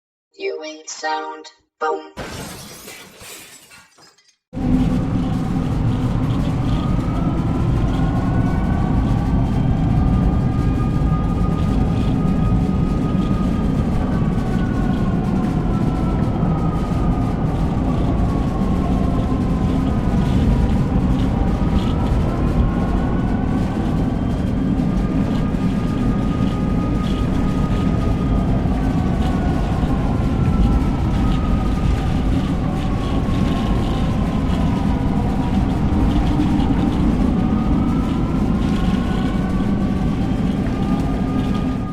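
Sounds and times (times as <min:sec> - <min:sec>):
distant tornado siren wailing: 0:04.6 - 0:41.9
strong wind rumble: 0:04.6 - 0:41.9.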